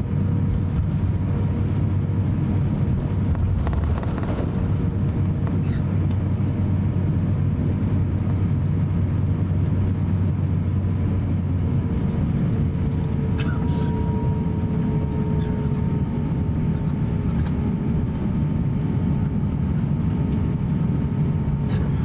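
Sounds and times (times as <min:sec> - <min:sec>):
aircraft cabin rumble: 0:00.0 - 0:22.0
faint jet engine whine: 0:00.0 - 0:22.0.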